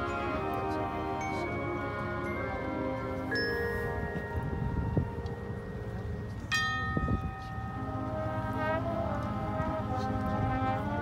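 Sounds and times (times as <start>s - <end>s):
marching band held chords: 0.0s - 11.0s.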